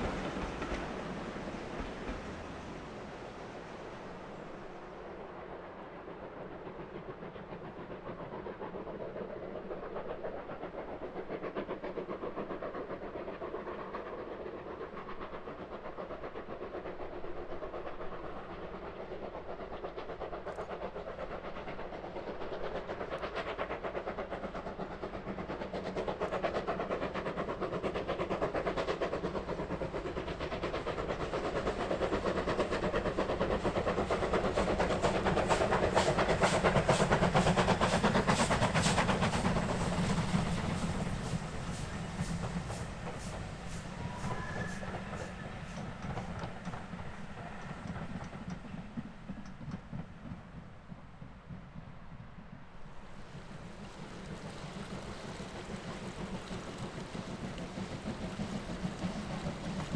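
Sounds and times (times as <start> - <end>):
steam locomotive running: 0.0 - 59.9.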